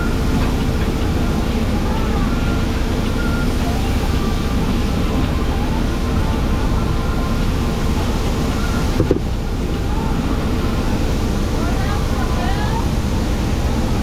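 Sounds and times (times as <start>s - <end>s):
engine rumbling: 0.0s - 14.0s
faint voices: 1.5s - 13.8s.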